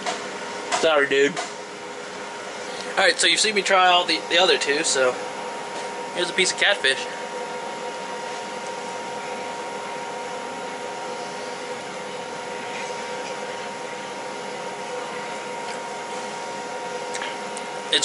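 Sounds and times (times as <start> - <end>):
machine fan whirring: 0.0 - 18.0
steady tonal hum: 0.0 - 18.0.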